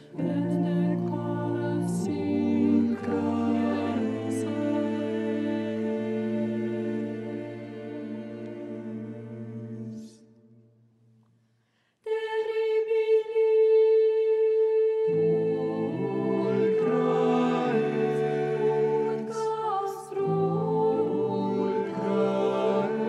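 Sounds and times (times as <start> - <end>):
women's a cappella ensemble: 0.0 - 10.3, 12.0 - 23.0.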